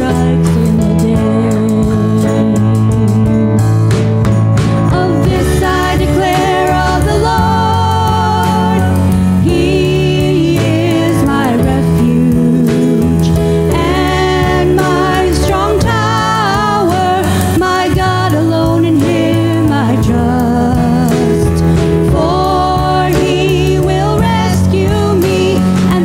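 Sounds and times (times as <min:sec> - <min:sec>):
drum kit with cymbal hits: 0:00.0 - 0:26.0
keyboard: 0:00.0 - 0:26.0
vocalists singing: 0:00.0 - 0:26.0.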